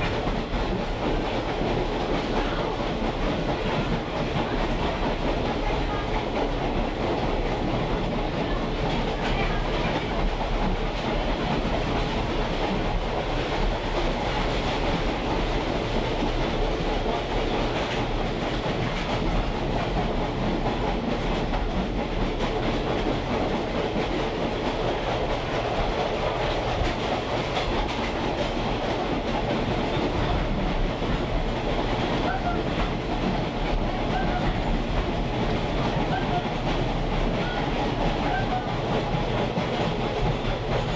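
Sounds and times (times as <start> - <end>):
steel wheels rumbling on rails: 0.0 - 40.9.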